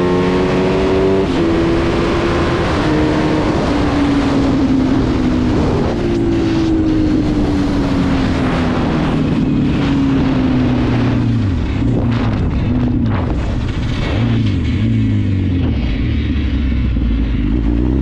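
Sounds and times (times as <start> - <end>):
wind rushing over microphone: 0.0 - 16.2.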